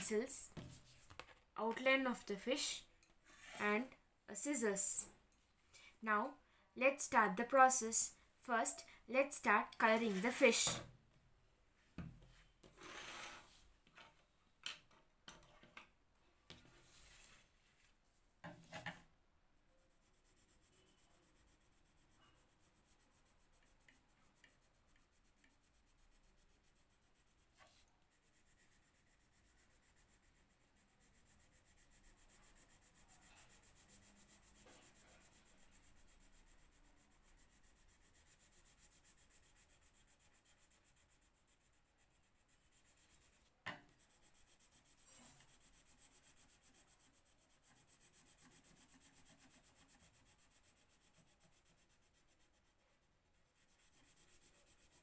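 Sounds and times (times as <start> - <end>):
pencil scratching on paper: 0.0 - 5.1, 6.8 - 10.8, 12.8 - 13.6, 19.7 - 55.0.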